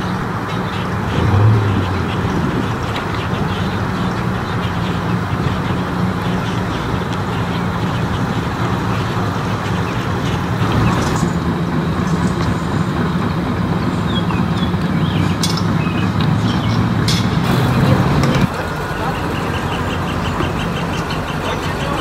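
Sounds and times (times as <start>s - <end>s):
car engines rumbling past: 0.0s - 22.0s.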